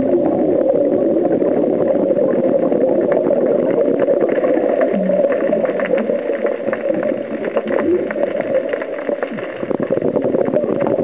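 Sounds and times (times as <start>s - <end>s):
underwater noise with tiny clicks: 0.0s - 11.0s.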